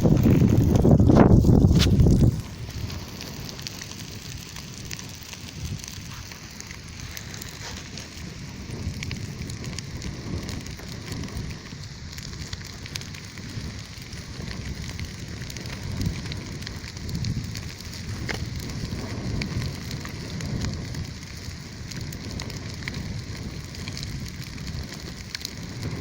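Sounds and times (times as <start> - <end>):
campfire crackling and popping: 0.0 - 26.0
rush of flames: 0.0 - 26.0.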